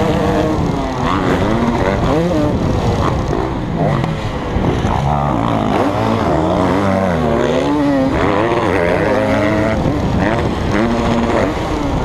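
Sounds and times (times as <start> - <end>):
another dirt bike engine: 0.0 - 12.0
two-stroke engine revving: 0.0 - 12.0.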